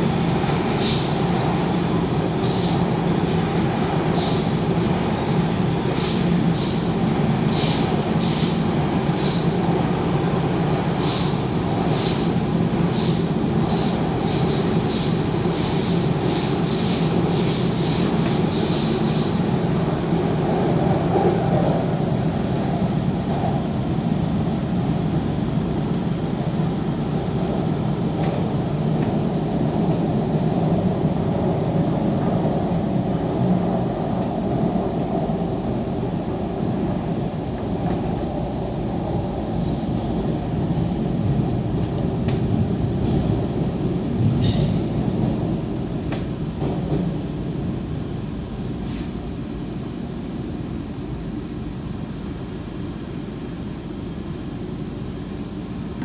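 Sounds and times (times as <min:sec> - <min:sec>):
metro car low rumble: 0:00.0 - 0:56.0.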